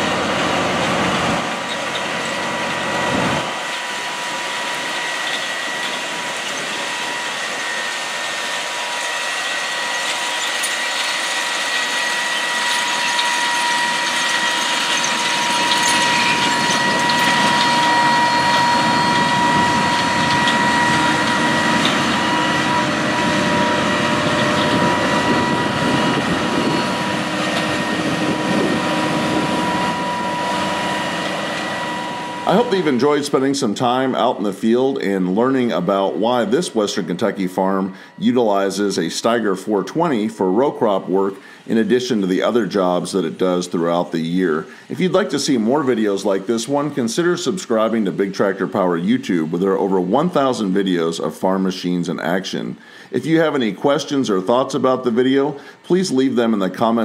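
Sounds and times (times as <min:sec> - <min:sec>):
machinery noise: 0:00.0 - 0:57.0
steady high whine: 0:00.0 - 0:57.0
tractor diesel engine under load: 0:00.0 - 0:57.0.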